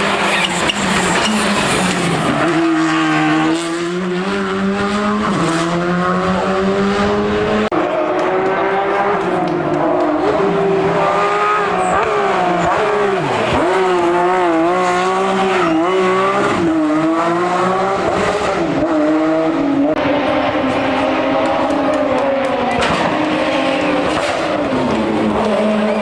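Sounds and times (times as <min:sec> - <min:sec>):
race car engine at high revs: 0:00.0 - 0:26.0.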